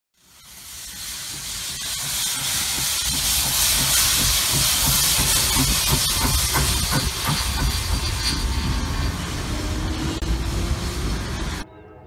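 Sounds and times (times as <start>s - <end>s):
steam locomotive hissing: 0.2s - 11.6s.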